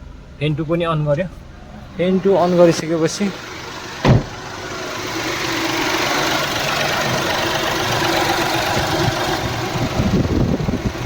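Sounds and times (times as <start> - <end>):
car engine idling: 0.0 - 11.0
radiator cooling fan running: 0.1 - 11.0.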